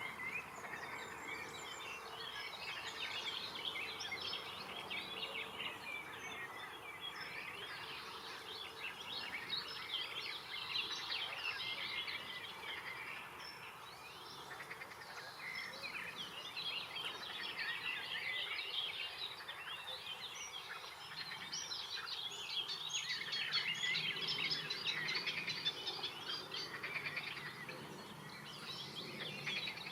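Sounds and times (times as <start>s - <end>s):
faint background noise: 0.0s - 29.9s
small birds chirping: 0.0s - 29.9s.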